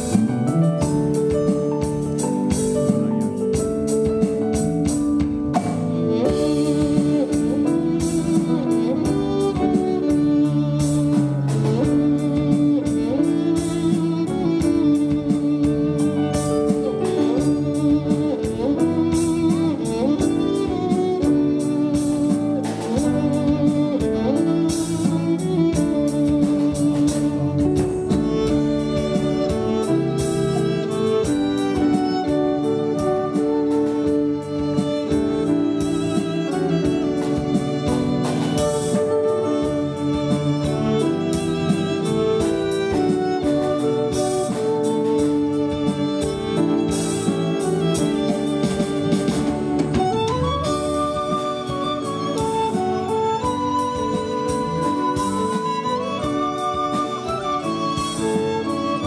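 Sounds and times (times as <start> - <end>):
instrumental pop ensemble: 0.0 - 59.0
sliding violin line: 0.0 - 59.0
steady drum beat: 0.0 - 59.0.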